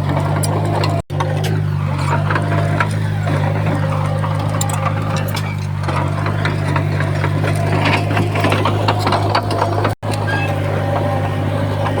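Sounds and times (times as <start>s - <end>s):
bulldozer diesel engine running: 0.0s - 12.0s
sharp clicks and rattles: 0.0s - 12.0s.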